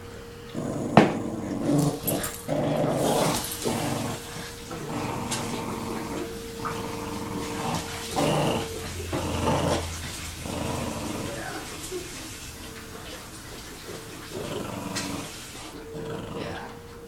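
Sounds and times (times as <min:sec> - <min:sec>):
dogs growling in play: 0:00.0 - 0:17.0.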